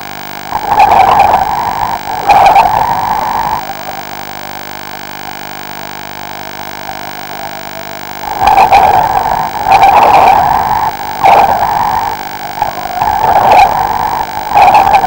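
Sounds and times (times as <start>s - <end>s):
steady electrical hum: 0.0s - 15.0s
exhaled air and bubbles underwater: 0.4s - 15.0s.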